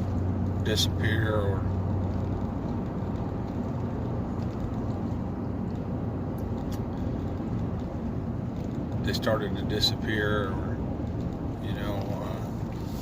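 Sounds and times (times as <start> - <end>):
vehicle rumble on paved road: 0.0 - 13.0.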